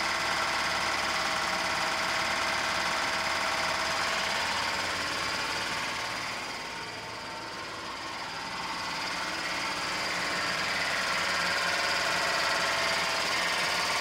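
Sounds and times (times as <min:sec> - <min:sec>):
engine running with mechanical chatter: 0:00.0 - 0:14.0.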